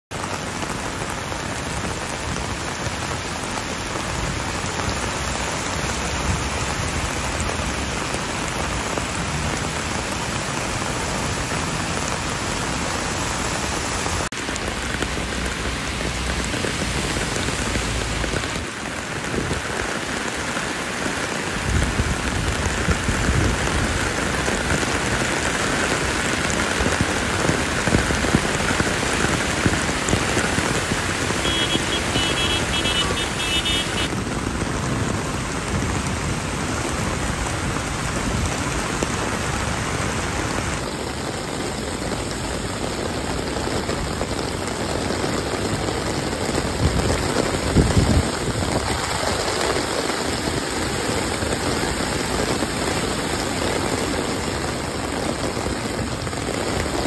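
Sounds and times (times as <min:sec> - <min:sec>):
heavy rain pouring: 0:00.1 - 0:57.0.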